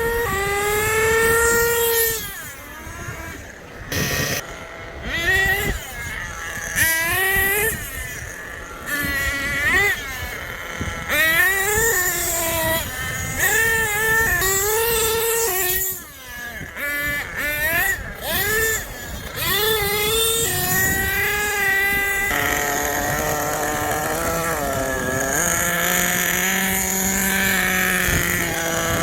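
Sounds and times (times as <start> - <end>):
rc truck engines whining: 0.0 - 29.0.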